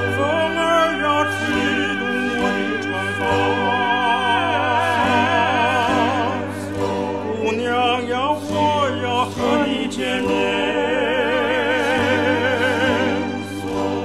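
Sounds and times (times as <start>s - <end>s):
operatic singing: 0.0s - 14.0s
sustained accompaniment: 0.0s - 14.0s.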